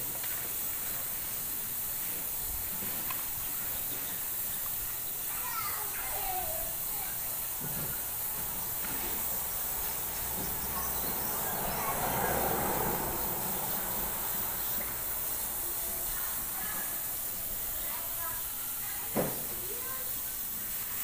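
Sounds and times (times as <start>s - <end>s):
broad rushing noise: 0.0s - 19.0s
airbrush hissing: 0.0s - 21.0s.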